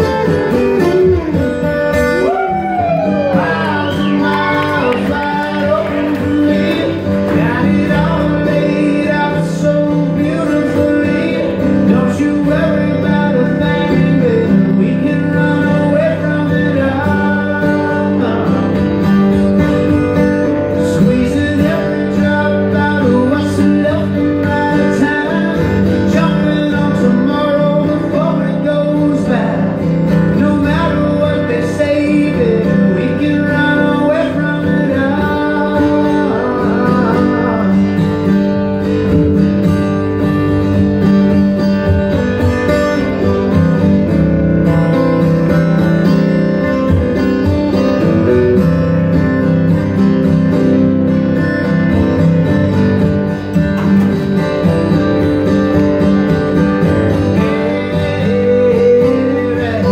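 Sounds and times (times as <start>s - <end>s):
acoustic guitars playing country song: 0.0s - 59.9s.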